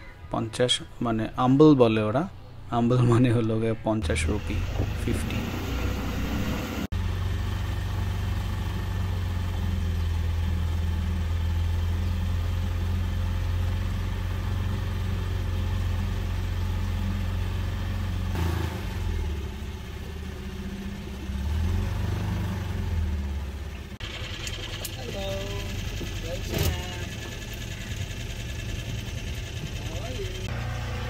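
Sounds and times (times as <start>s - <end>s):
outboard motor humming: 4.1s - 21.7s, 22.6s - 31.0s.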